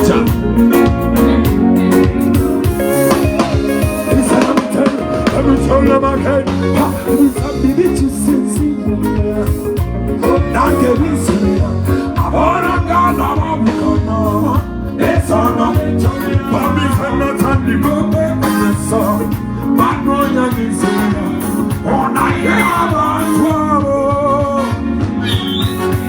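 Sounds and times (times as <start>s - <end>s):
person singing: 0.0s - 0.9s, 3.0s - 26.0s
live band playing: 0.0s - 26.0s.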